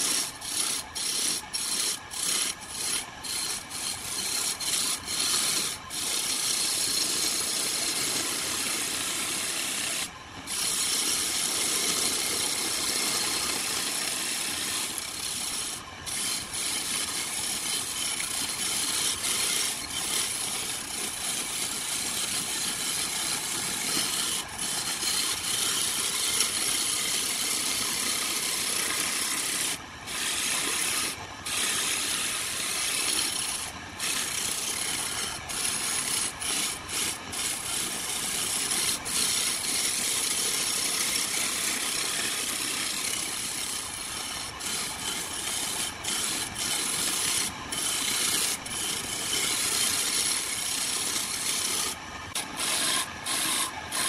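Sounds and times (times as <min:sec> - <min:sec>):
chisel scraping wood on lathe: 0:00.0 - 0:54.0.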